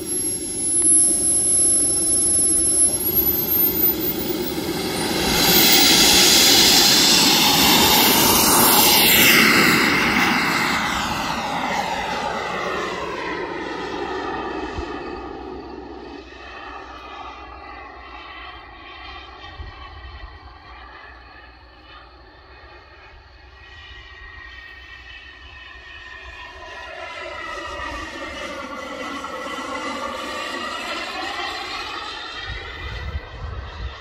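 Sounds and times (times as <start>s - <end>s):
model jet turbine roaring: 0.0s - 34.0s.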